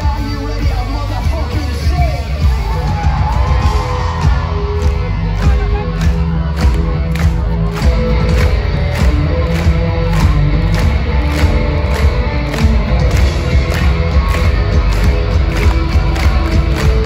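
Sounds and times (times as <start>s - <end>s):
driving drum beat: 0.0s - 17.0s
live rock band playing: 0.0s - 17.0s.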